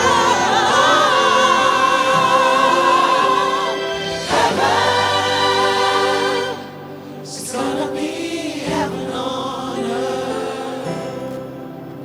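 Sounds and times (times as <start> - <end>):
choir singing held notes: 0.0 - 12.0
gospel music: 0.0 - 12.0.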